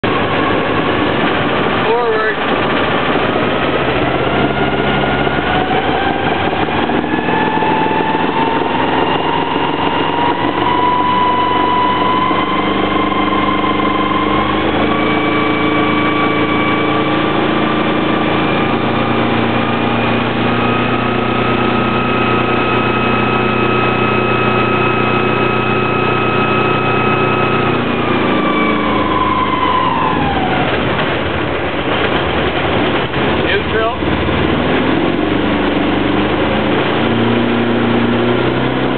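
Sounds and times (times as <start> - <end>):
boat engine running: 0.0 - 38.9
high engine whine: 0.0 - 38.9.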